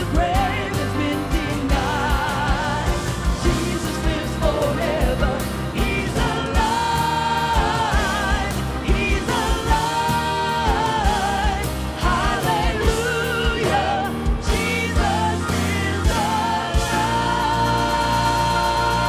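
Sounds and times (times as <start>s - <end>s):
live worship band: 0.0s - 19.0s.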